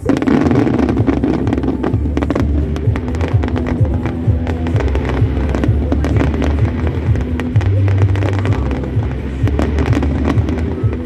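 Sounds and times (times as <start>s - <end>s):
fireworks bangs and crackles: 0.0s - 11.0s
loud music with low bass: 0.0s - 11.0s.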